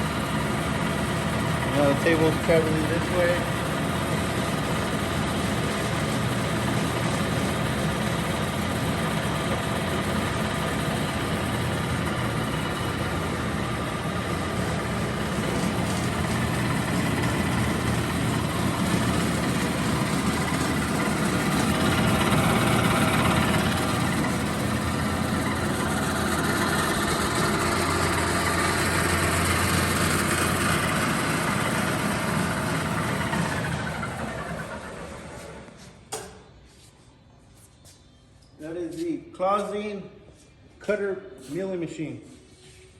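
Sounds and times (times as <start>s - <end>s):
milling machine humming and whining: 0.0s - 35.6s.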